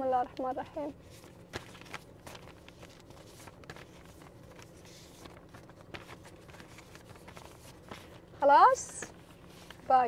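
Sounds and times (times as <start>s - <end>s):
steady low hum: 0.0s - 10.0s
paper envelopes rustling: 0.3s - 10.0s.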